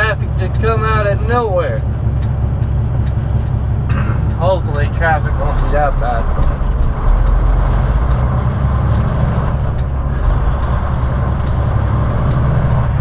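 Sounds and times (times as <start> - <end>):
diesel engine drone from cab: 0.0 - 13.0.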